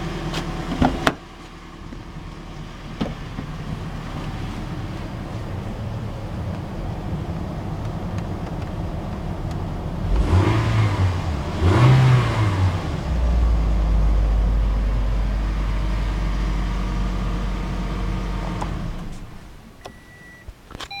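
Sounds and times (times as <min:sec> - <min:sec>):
car engine running with abnormal noise: 0:00.0 - 0:20.4.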